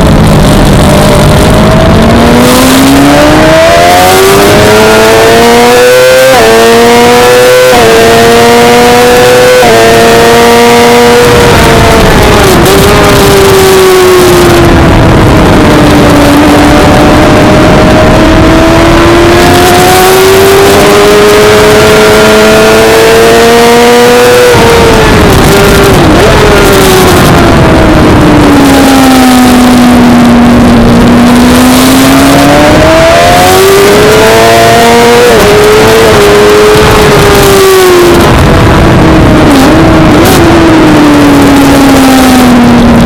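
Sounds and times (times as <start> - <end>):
race bike engine at high revs: 0.0 - 43.0
rush of noise: 0.0 - 43.0.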